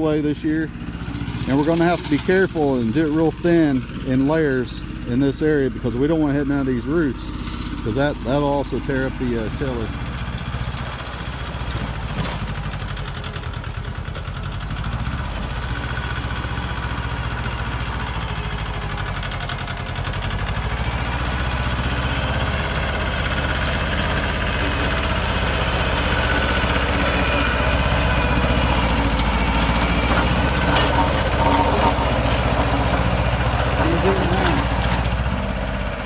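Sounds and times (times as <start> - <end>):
tiller working soil: 0.0 - 36.0
tractor diesel engine running: 0.0 - 36.0.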